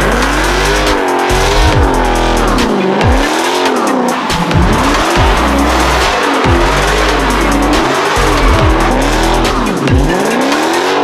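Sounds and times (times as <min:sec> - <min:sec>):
music with heavy bass: 0:00.0 - 0:11.0
tires squealing: 0:00.0 - 0:11.0.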